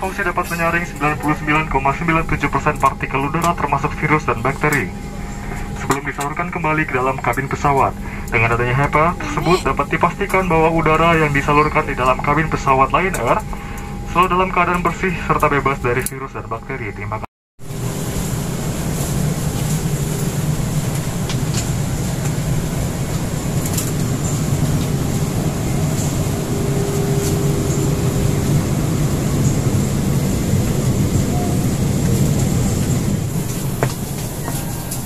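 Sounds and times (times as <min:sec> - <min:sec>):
airliner cabin drone: 0:00.0 - 0:35.0.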